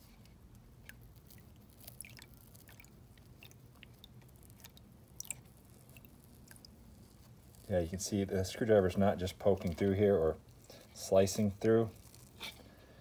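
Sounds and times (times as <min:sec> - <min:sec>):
screwdriver squishing into wet foam: 0:00.0 - 0:12.7.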